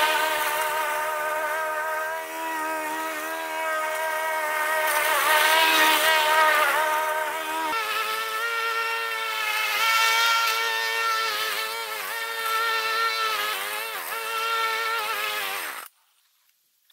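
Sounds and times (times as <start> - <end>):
lawn mower cutting grass: 0.0 - 15.9.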